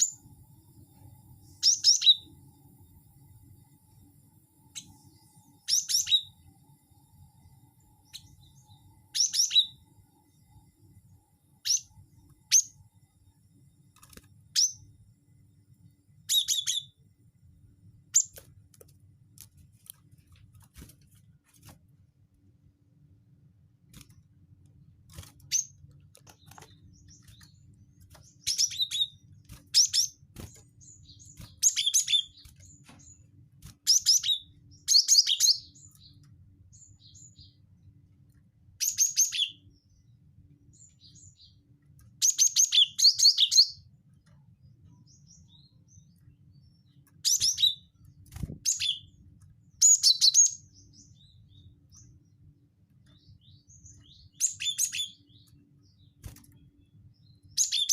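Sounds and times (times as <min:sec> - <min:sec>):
faint low hum: 0:00.0 - 0:57.9.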